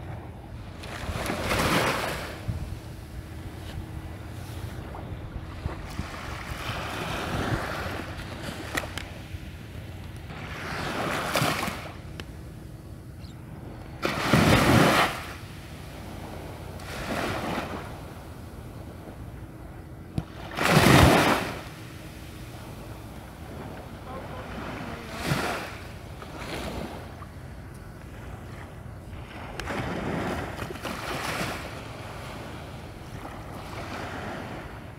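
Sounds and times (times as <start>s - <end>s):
small waves washing onto shore: 0.0s - 12.2s, 13.6s - 19.2s, 20.2s - 34.9s.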